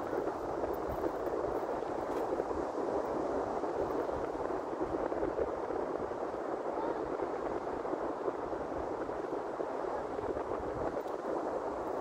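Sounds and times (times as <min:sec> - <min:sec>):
rushing wind: 0:00.0 - 0:12.0
wind buffeting microphone: 0:00.0 - 0:12.0.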